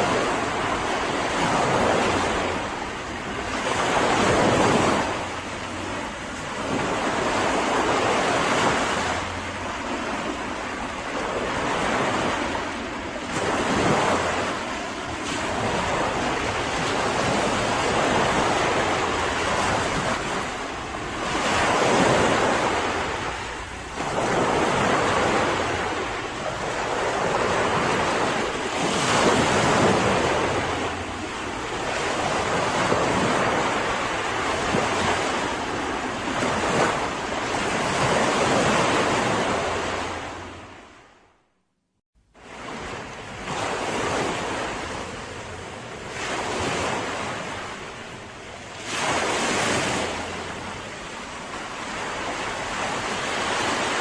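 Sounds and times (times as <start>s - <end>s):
waves breaking on a beach: 0.0s - 41.3s, 42.3s - 54.0s.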